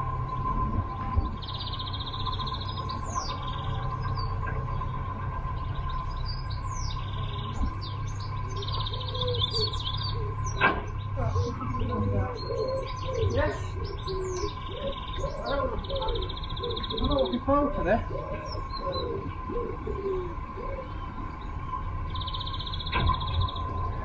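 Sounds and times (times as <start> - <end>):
boat diesel engine humming: 0.0 - 24.0
songbirds trilling and chirping: 0.0 - 24.0.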